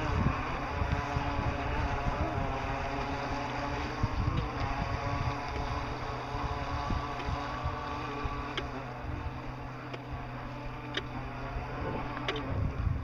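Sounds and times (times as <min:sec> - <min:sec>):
boat motor whining: 0:00.0 - 0:13.0
wind rumbling on microphone: 0:00.0 - 0:13.0.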